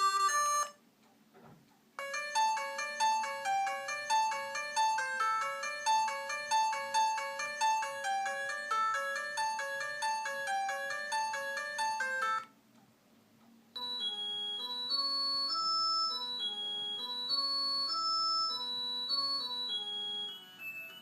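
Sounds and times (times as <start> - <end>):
polyphonic phone ringtones: 0.0 - 0.8, 2.0 - 12.5, 13.8 - 21.0.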